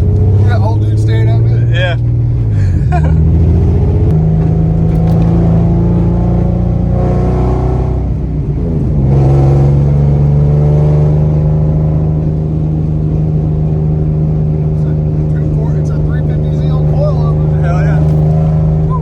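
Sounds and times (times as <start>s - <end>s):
car engine and exhaust: 0.0s - 19.0s.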